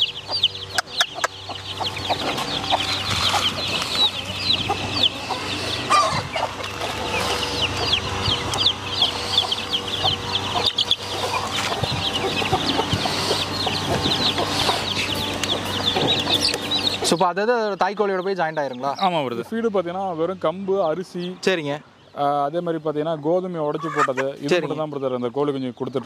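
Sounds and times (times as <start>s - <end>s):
chicks peeping: 0.0s - 26.0s
hen clucking: 0.0s - 26.0s.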